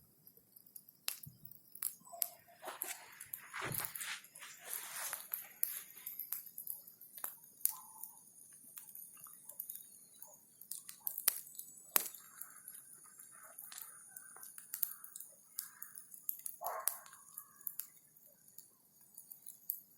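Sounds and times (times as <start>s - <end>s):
bonfire crackling: 0.0s - 19.9s.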